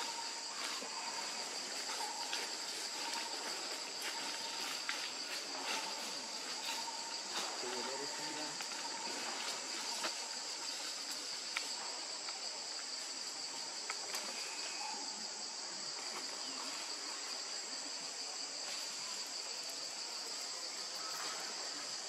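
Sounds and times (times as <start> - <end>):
insects droning in chorus: 0.0 - 22.0.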